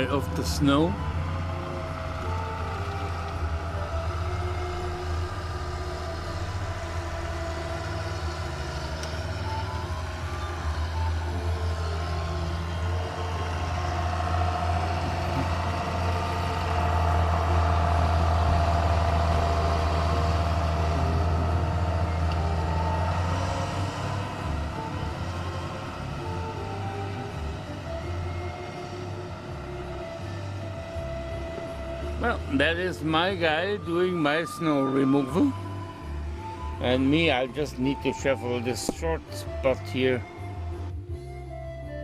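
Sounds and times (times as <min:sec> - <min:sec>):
snowplow engine running: 0:00.0 - 0:42.0.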